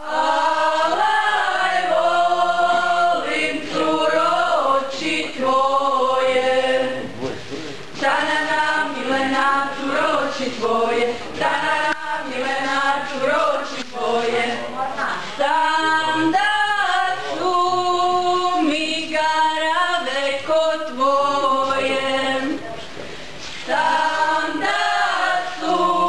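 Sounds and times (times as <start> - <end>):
group singing without instruments: 0.0 - 22.7, 23.4 - 26.0.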